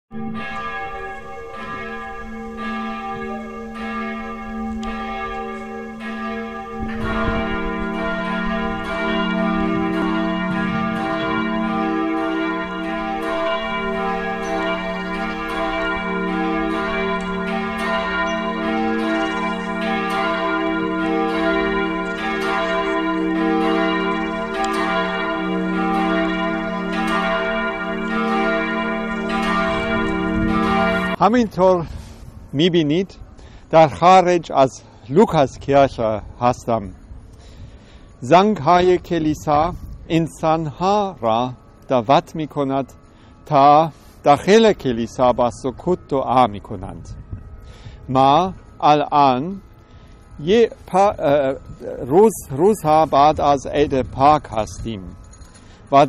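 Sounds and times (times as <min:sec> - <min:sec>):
church bells ringing: 0:00.1 - 0:56.0
deeper bell: 0:00.1 - 0:56.0.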